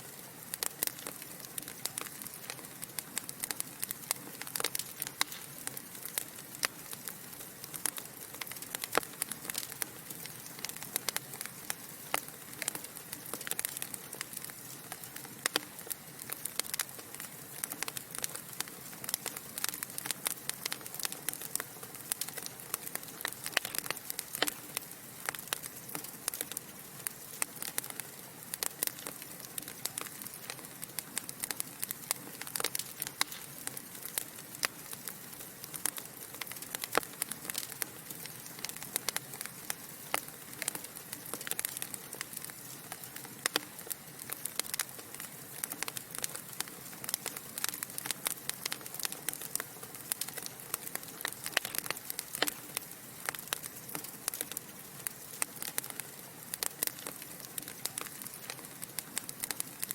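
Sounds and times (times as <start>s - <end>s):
logs crackling in fireplace: 0.0s - 59.9s.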